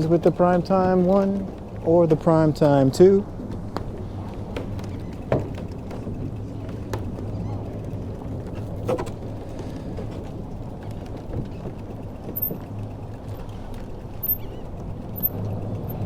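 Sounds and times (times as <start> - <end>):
bicycle clicks and rattles: 0.0 - 16.0
wind rumbling on microphone: 0.0 - 16.0.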